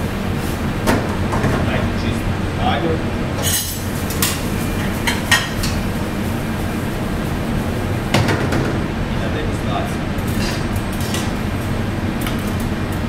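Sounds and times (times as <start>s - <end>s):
gas burner and extractor rushing: 0.0s - 13.0s.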